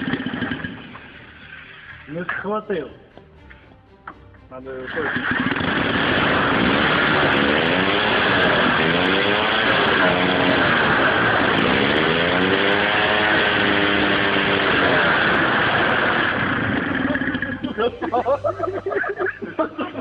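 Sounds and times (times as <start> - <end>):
rotary engine revving: 0.0 - 2.5, 4.8 - 20.0.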